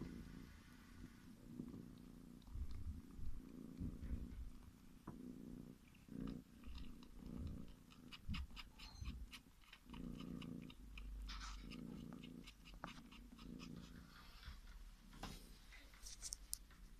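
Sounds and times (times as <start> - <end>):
kitten purring: 0.0 - 16.9.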